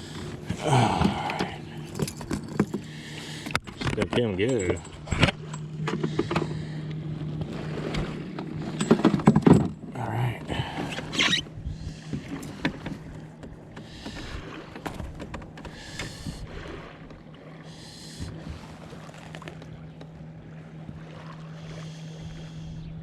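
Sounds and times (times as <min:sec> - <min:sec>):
steady low hum: 0:00.0 - 0:23.0
water sloshing against a kayak: 0:00.0 - 0:23.0.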